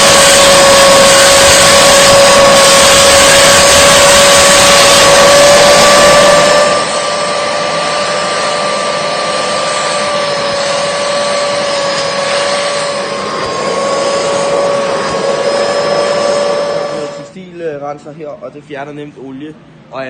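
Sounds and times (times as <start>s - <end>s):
vacuum motor whining: 0.0s - 17.5s.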